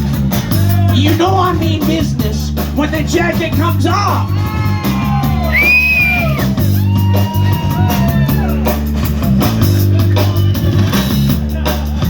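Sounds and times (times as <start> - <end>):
bass notes: 0.0 - 12.0
drum kit beats: 0.0 - 12.0.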